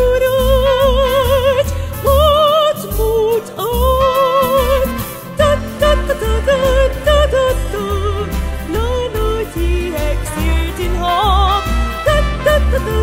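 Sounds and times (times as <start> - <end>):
pulsing bass line: 0.0 - 13.0.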